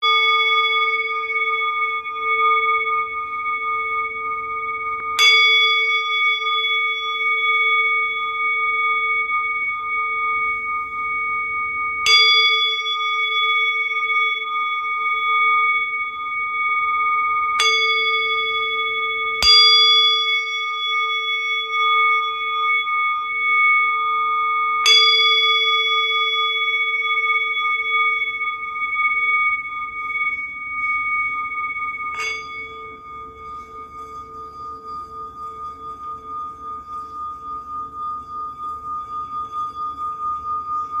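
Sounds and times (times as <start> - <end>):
singing bowl struck and ringing: 0.0 - 41.0.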